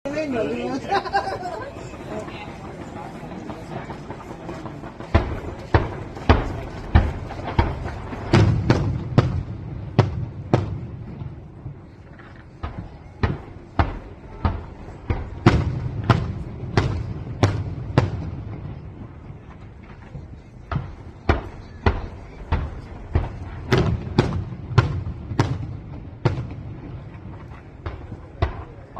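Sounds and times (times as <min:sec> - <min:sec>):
fireworks bangs: 0:00.1 - 0:28.9.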